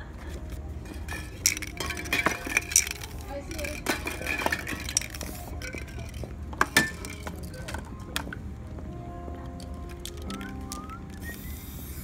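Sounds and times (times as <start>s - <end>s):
background music: 0.0s - 12.0s
metallic clinks of spray cans: 0.8s - 8.2s, 9.6s - 12.0s.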